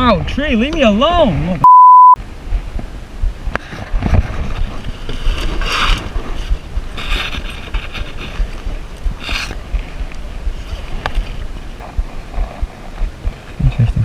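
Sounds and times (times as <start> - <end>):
wind rumbling on microphone: 2.2 - 14.0
paddle strokes swishing through water: 2.3 - 13.8.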